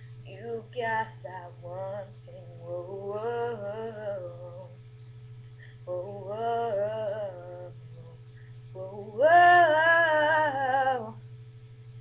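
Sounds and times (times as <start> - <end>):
low electrical hum: 0.0 - 12.0
woman singing wordless melody: 0.3 - 4.8, 5.8 - 11.2.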